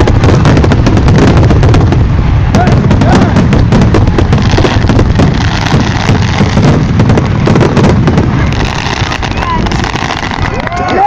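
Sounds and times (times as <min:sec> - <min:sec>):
deep rumble: 0:00.0 - 0:11.0
fireworks bangs and crackles: 0:00.0 - 0:11.0.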